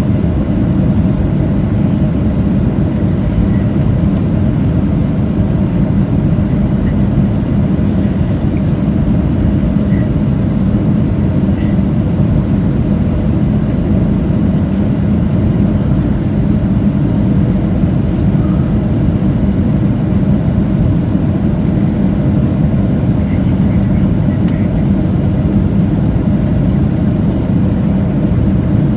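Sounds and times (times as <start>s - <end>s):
airplane cabin engine rush: 0.0s - 28.9s
faint steady hum: 0.0s - 28.9s.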